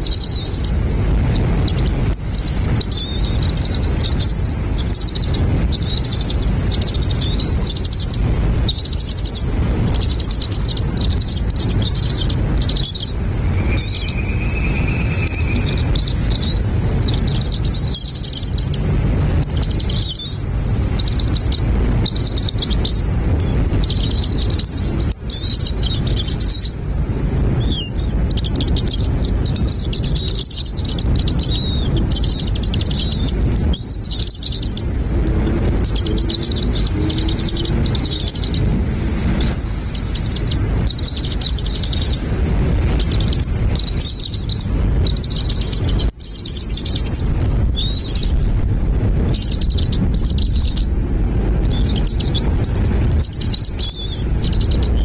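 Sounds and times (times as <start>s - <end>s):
nestling birds chirping: 0.0s - 55.0s
steady low rumble: 0.0s - 55.0s.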